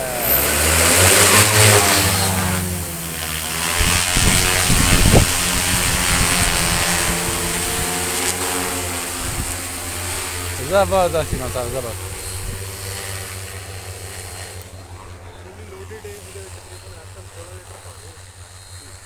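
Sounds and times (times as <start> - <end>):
drone propellers droning: 0.0 - 19.0.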